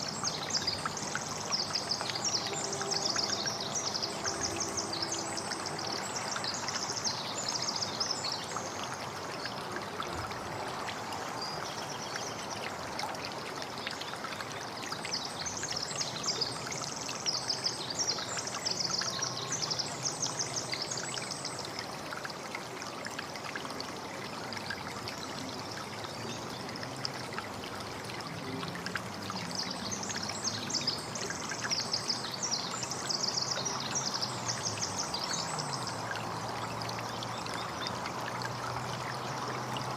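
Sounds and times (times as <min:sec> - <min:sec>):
songbirds chirping: 0:00.0 - 0:22.4, 0:23.5 - 0:39.9
water trickling and splashing: 0:00.0 - 0:39.9.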